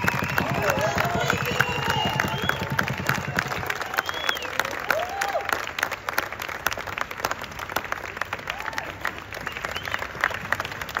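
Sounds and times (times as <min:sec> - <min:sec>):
crowd cheering: 0:00.0 - 0:06.8, 0:07.8 - 0:11.0
audience clapping: 0:00.0 - 0:11.0.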